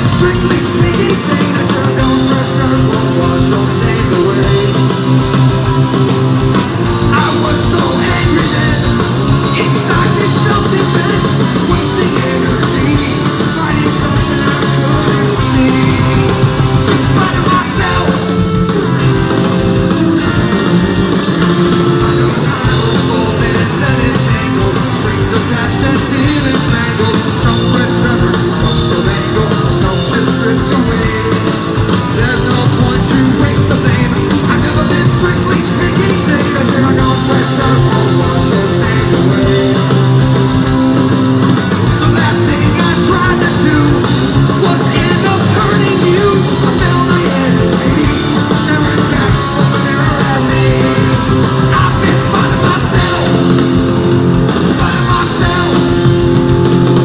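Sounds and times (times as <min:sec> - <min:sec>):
person singing: 0:00.0 - 0:05.3, 0:06.8 - 0:40.9, 0:41.8 - 0:54.0, 0:54.6 - 0:57.0
punk rock band playing: 0:00.0 - 0:57.0.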